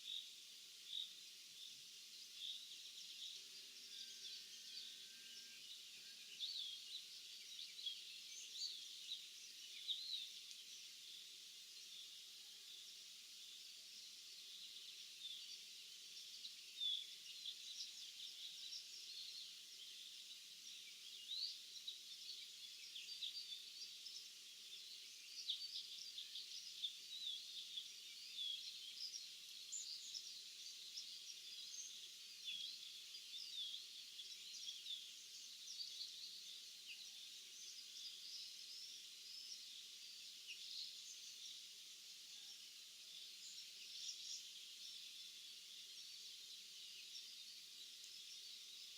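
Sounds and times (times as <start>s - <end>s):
small birds singing and chirping: 0.0s - 48.9s.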